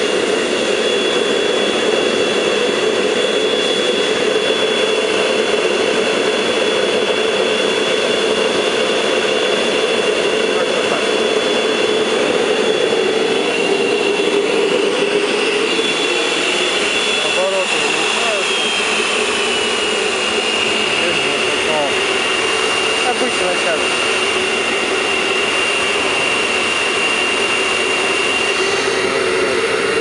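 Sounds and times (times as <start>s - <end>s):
gas forge roaring: 0.0s - 30.0s.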